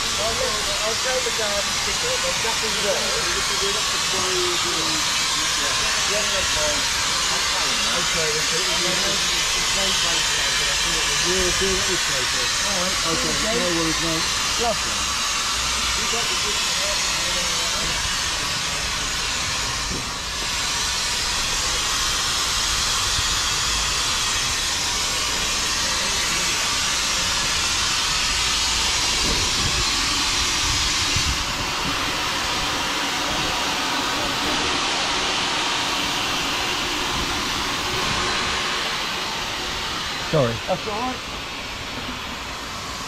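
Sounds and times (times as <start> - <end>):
steam locomotive hissing: 0.0 - 43.0.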